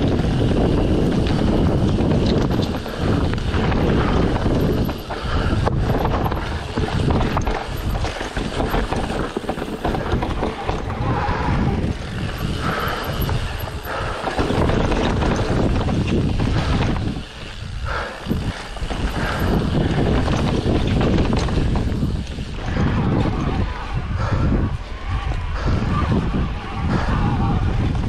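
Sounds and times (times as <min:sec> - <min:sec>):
bike knocks and rattles: 0:00.0 - 0:28.0
wind buffeting microphone: 0:00.0 - 0:28.0.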